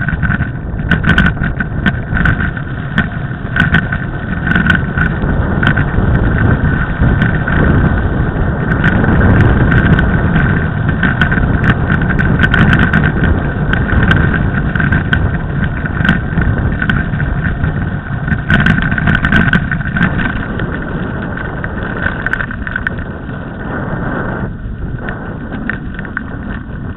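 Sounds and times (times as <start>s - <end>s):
bike clicks and rattles: 0.0s - 26.9s
bike tyres rumbling on snow: 0.0s - 26.9s
wind on microphone: 0.0s - 26.9s.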